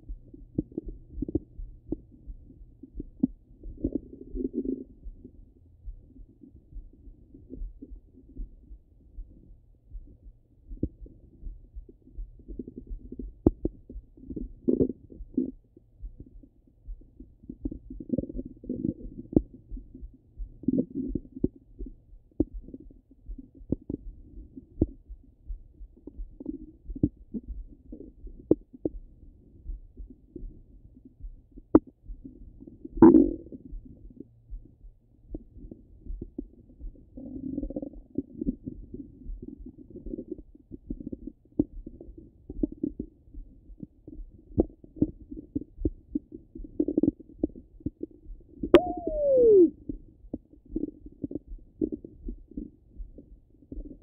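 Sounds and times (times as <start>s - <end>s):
stomach gurgling: 0.0s - 9.4s, 10.7s - 34.7s, 35.3s - 54.0s.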